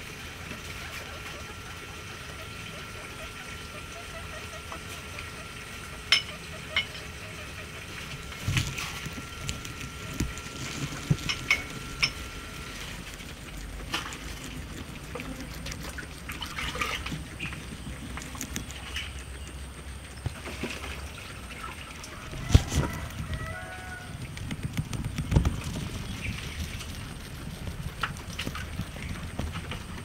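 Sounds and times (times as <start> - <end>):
faint steady hum: 0.0 - 30.0
guinea pig chewing grass: 0.0 - 30.0.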